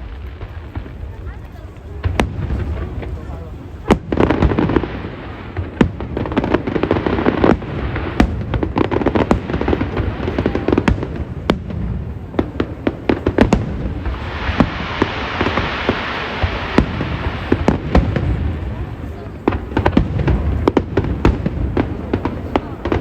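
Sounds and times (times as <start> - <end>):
fireworks bangs: 0.0 - 23.0
rumble and crackle of bursts: 0.0 - 23.0.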